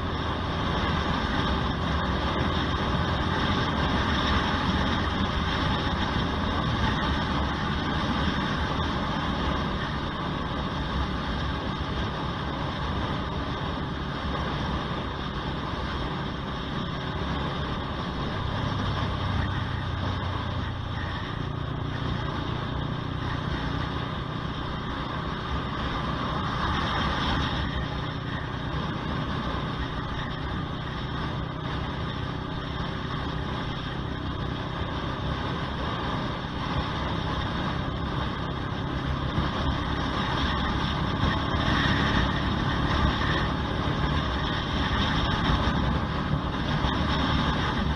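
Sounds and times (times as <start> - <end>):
motorcycle engine running: 0.0 - 47.9
road and wind noise: 0.0 - 47.9.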